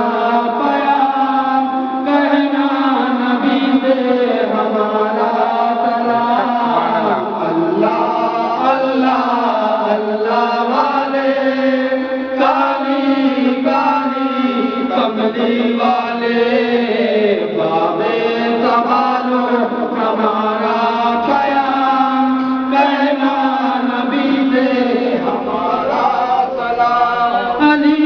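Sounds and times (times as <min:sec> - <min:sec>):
men chanting together: 0:00.0 - 0:28.0
person singing into a microphone: 0:00.0 - 0:28.0.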